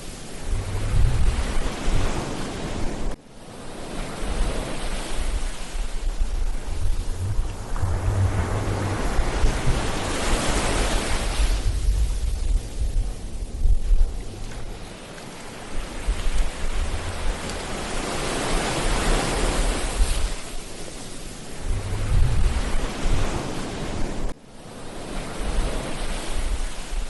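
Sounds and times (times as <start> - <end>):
wind rumbling on microphone: 0.0 - 24.4, 25.1 - 27.0
waves breaking on beach: 0.0 - 27.0.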